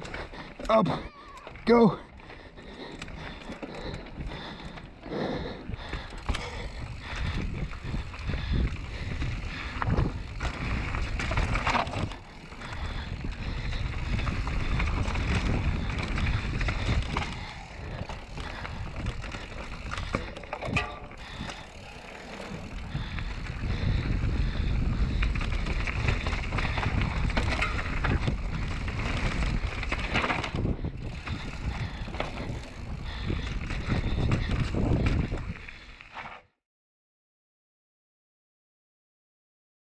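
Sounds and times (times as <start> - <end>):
bike tyres rolling over dirt: 0.0 - 36.4
bike rattling clicks: 2.3 - 36.4.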